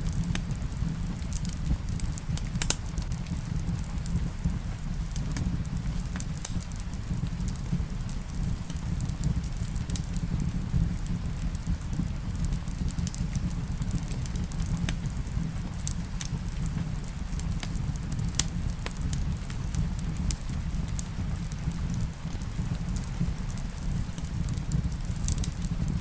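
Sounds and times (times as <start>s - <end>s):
low rumble of flames: 0.0s - 26.0s
rain: 0.0s - 26.0s
wood fire crackling and popping: 0.0s - 26.0s.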